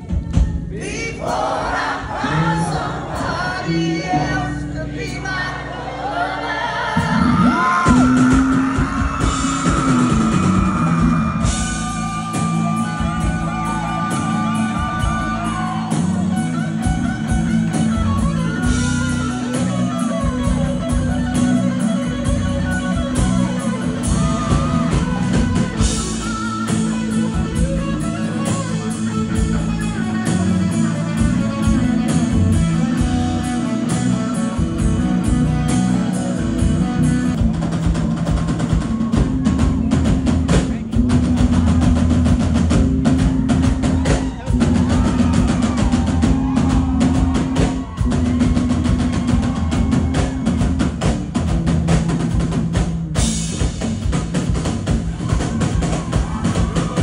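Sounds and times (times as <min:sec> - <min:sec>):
drum kit: 0:00.0 - 0:03.5, 0:07.0 - 0:57.0
bass guitar: 0:00.0 - 0:57.0
electric lead guitar: 0:06.6 - 0:57.0.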